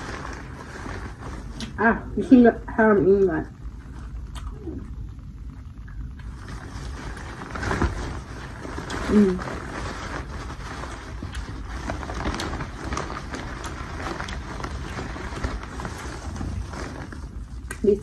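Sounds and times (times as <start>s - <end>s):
plastic bag crinkling: 0.0s - 4.6s, 6.0s - 18.0s.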